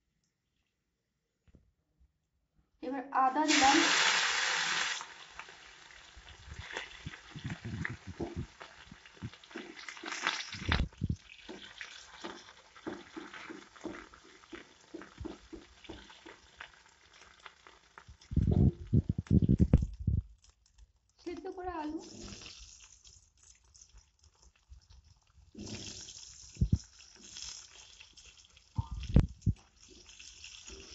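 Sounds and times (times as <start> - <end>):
paste frying in oil crackling: 3.4 - 30.9.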